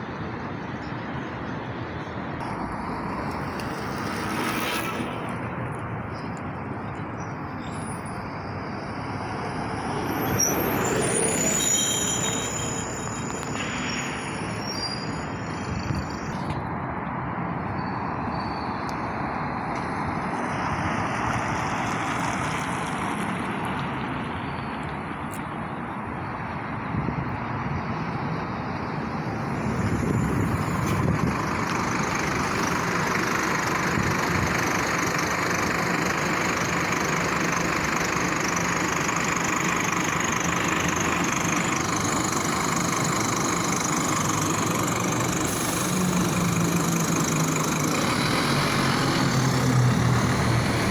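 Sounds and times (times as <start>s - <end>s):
heavy trucks driving past: 0.1s - 50.9s.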